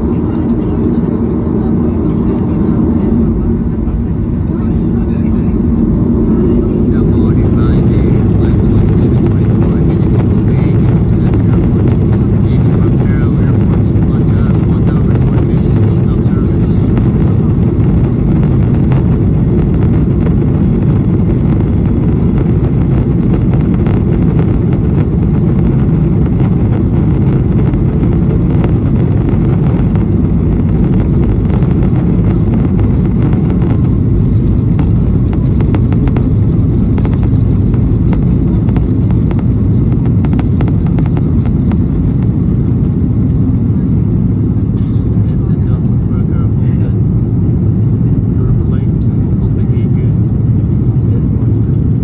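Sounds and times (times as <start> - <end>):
jet engines rumbling at takeoff: 0.0 - 52.0
rattles and clicks from runway: 0.1 - 1.1, 2.2 - 52.0.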